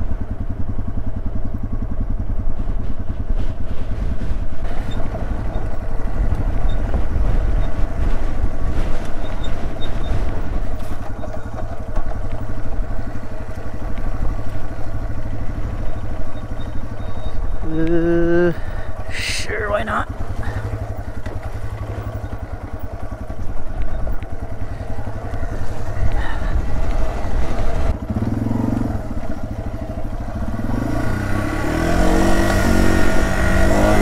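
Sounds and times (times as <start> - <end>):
motorcycle engine running steadily: 0.0 - 34.0.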